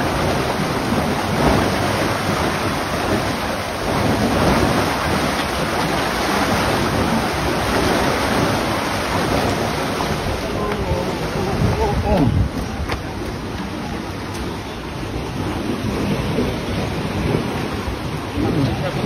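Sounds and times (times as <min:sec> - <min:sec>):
water rushing through sluice gate: 0:00.0 - 0:19.0.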